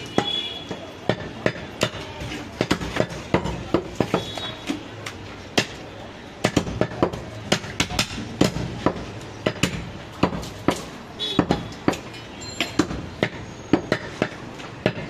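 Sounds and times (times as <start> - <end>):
cleaver chopping on wooden block: 0.2 - 4.5, 6.4 - 12.1, 12.7 - 15.0.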